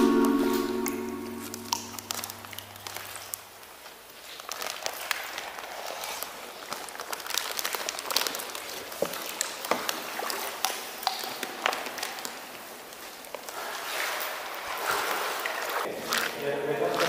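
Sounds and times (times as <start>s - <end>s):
water drips: 0.0s - 5.7s, 6.6s - 17.0s
muddy water splashing: 0.0s - 17.0s.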